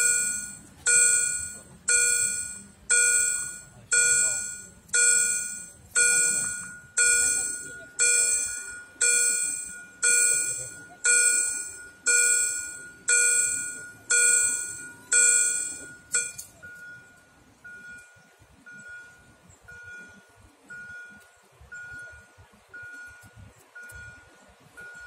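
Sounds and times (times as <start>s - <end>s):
faint short beeps: 0.0s - 25.0s
level crossing warning bell: 0.0s - 25.0s.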